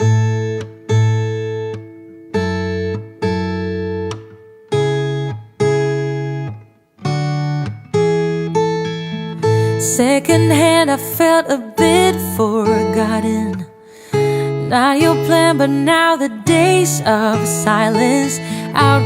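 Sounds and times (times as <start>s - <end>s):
guitar chords ringing: 0.0s - 19.0s.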